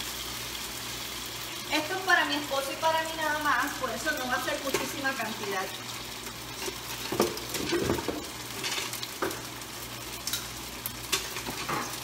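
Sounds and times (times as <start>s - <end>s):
beef sizzling in frying pan: 0.0s - 12.0s.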